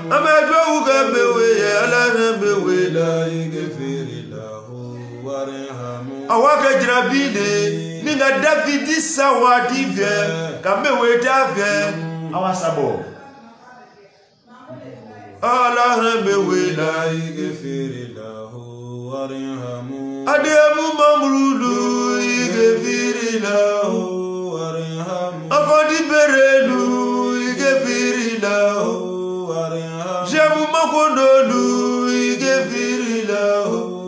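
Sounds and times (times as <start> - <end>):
man singing chanted melody: 0.0 - 13.2, 15.4 - 34.0.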